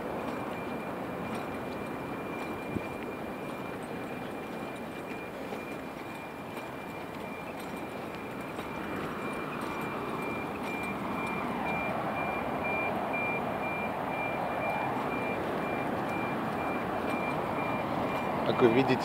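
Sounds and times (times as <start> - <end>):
city traffic noise: 0.0 - 19.0
high electronic beeps: 0.3 - 19.0.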